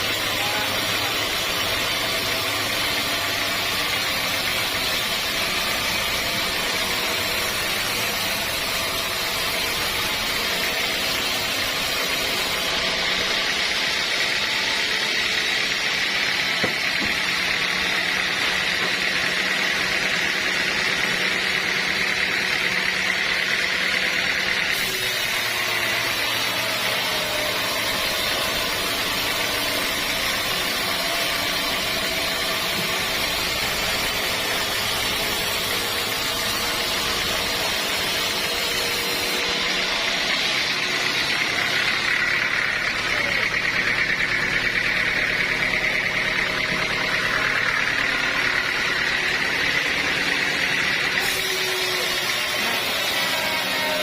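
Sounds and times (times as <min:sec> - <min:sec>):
high machine whine: 0:00.0 - 0:54.0
sawmill machinery droning: 0:00.0 - 0:54.0.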